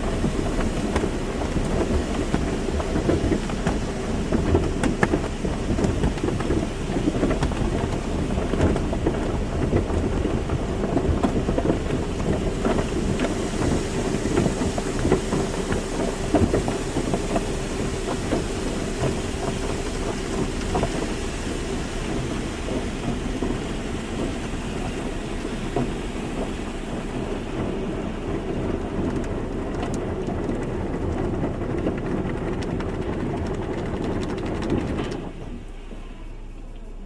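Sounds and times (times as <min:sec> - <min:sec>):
car wash spraying water: 0:00.0 - 0:37.0.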